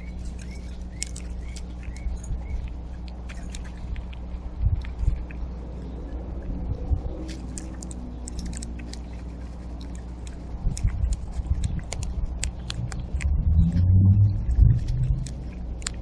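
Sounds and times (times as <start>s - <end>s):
birds cracking seeds: 0.0s - 16.0s
steady low rumble: 0.0s - 16.0s.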